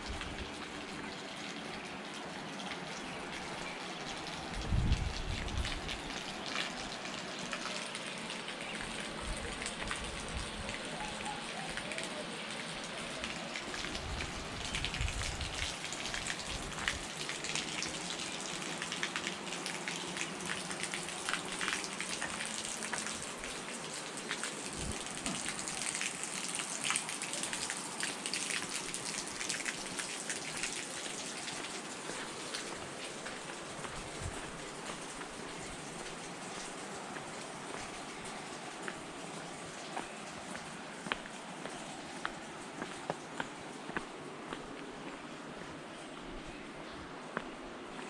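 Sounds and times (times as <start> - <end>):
water trickling and splashing: 0.0 - 48.0.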